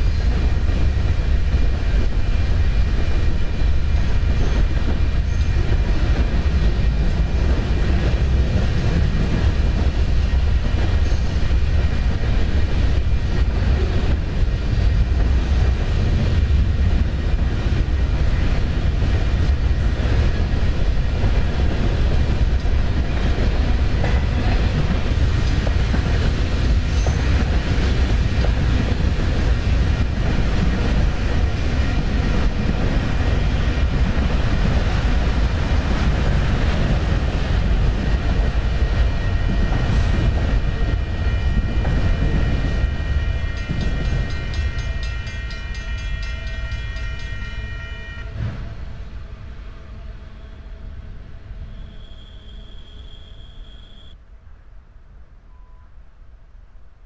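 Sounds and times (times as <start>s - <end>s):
train passing rumble: 0.0s - 57.0s.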